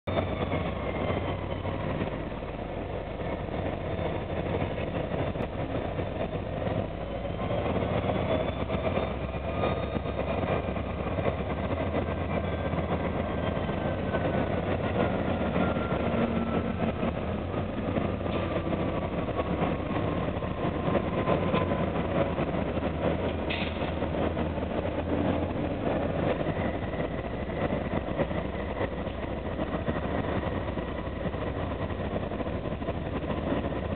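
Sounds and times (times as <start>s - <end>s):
diesel locomotive engines running: 0.0s - 33.9s.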